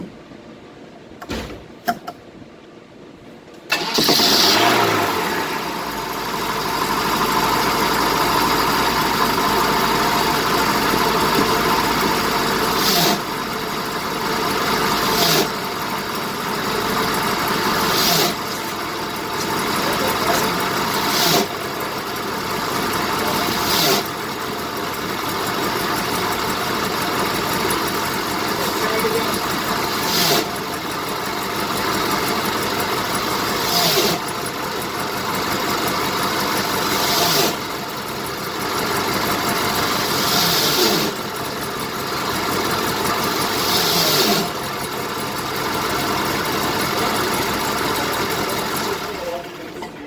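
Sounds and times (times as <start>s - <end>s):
car engine idling: 3.7s - 50.0s
clutch grinding: 3.7s - 50.0s.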